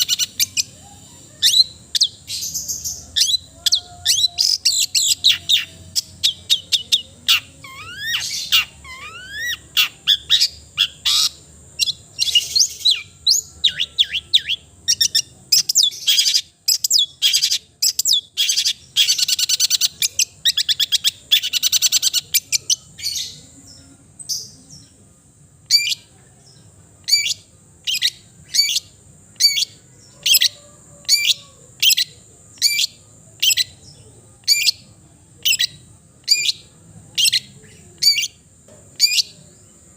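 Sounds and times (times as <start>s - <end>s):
shrike singing varied song: 0.0s - 39.9s.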